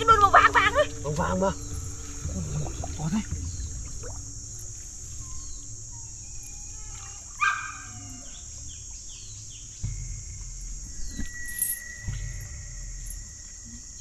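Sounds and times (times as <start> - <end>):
low rumble: 0.0 - 6.5, 8.4 - 14.0
birds chirping: 0.0 - 14.0
high insect drone: 0.0 - 14.0.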